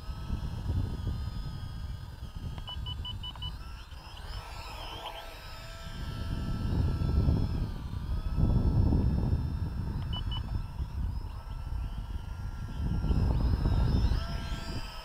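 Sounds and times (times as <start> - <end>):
drone propellers whining: 0.0 - 15.0
wind rumbling on microphone: 0.0 - 15.0.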